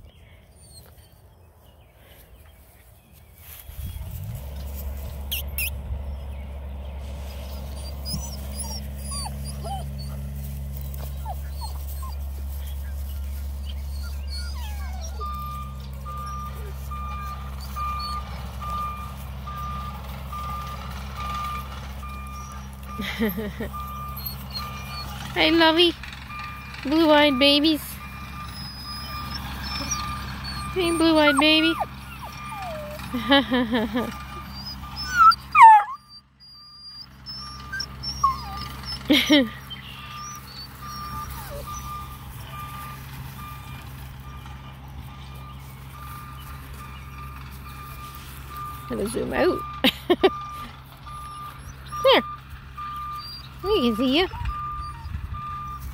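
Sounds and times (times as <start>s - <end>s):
low engine hum: 0.0s - 55.9s
vehicle backup alarm beeping: 11.0s - 55.9s.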